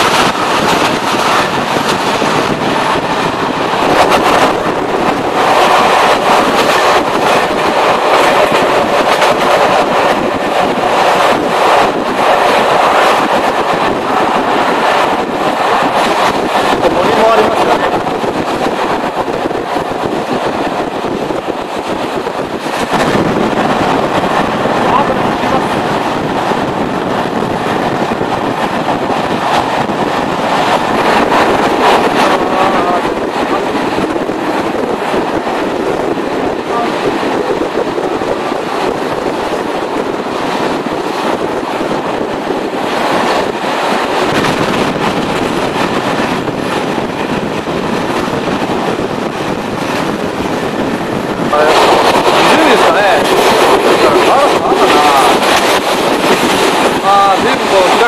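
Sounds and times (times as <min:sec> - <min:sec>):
rushing air: 0:00.0 - 0:58.0
train wheels rumbling on rails: 0:00.0 - 0:58.0.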